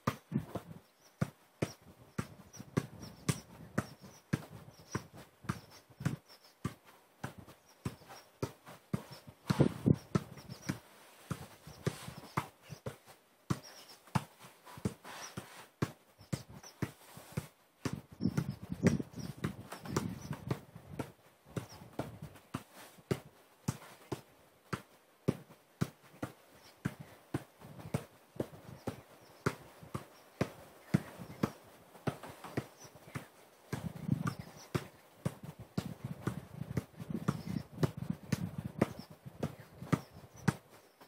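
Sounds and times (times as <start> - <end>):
football kicked dull thuds: 0.0 - 41.0.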